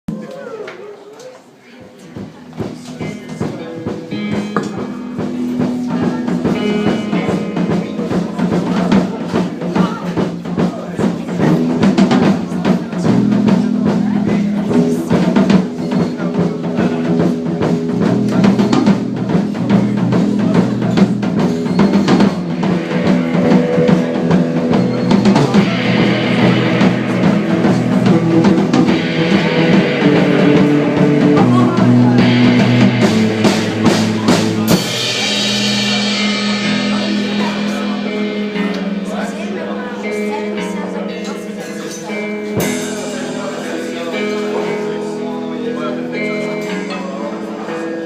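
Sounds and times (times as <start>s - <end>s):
drum kit beat: 2.0s - 47.9s
live rock band playing: 2.0s - 48.0s.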